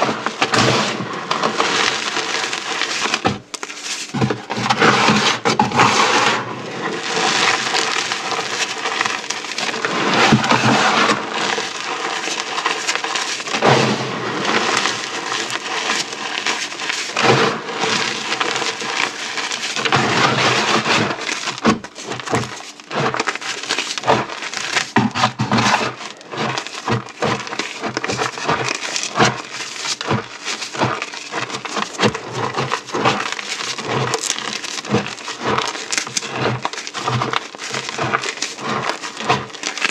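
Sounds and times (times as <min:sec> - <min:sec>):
beads and chalk crunching: 0:00.0 - 0:39.9.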